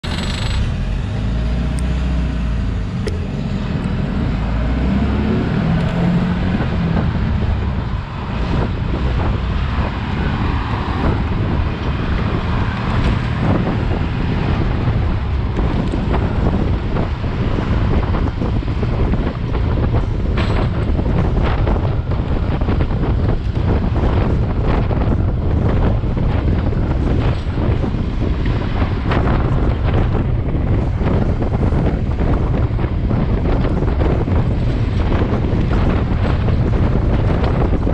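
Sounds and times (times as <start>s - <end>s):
low rumble of truck and road: 0.0s - 37.9s
wind rushing over microphone: 0.0s - 37.9s.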